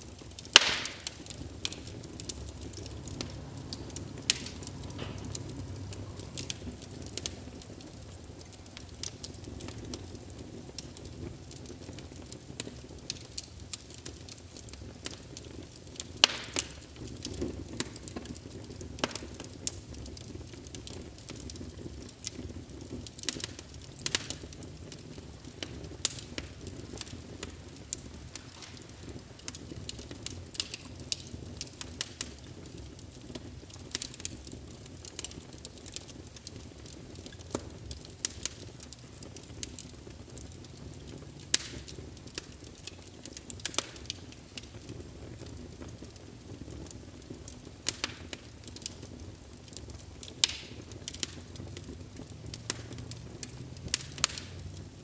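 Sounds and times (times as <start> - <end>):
fire crackling and popping: 0.0 - 55.0
low rush of flame: 0.0 - 55.0.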